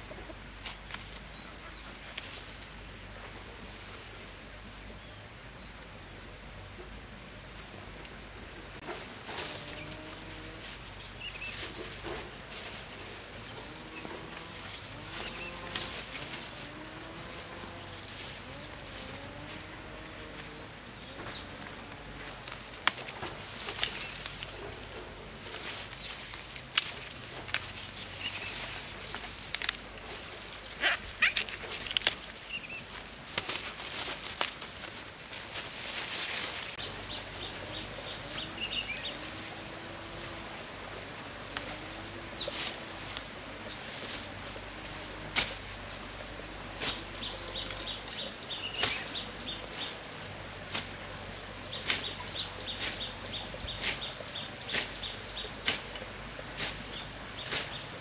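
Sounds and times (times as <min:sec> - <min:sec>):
high insect whine: 0:00.0 - 0:58.0.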